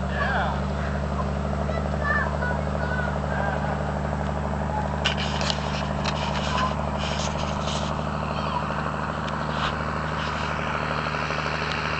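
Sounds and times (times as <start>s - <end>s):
diesel truck engine idling: 0.0s - 11.9s.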